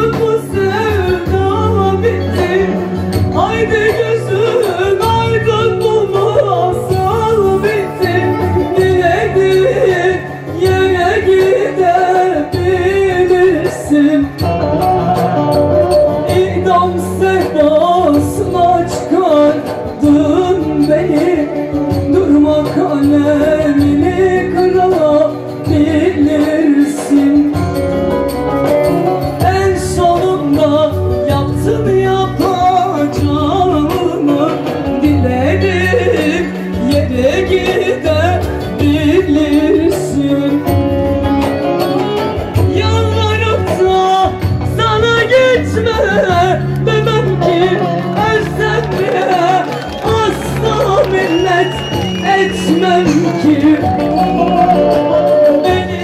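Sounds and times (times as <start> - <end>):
band playing: 0.0 - 56.0
woman singing into microphone: 0.0 - 56.0.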